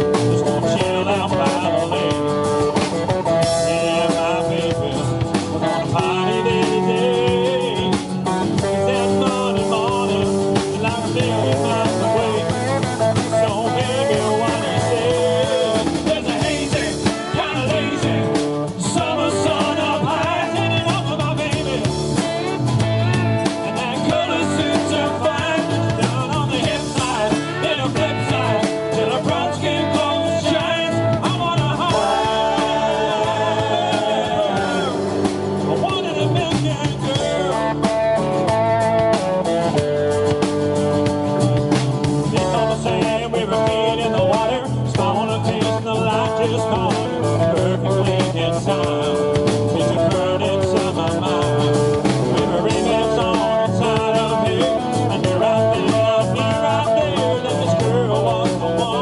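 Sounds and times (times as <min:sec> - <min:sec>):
man singing lead vocals: 0:00.0 - 0:41.0, 0:42.0 - 0:59.0
country band playing live: 0:00.0 - 0:59.0.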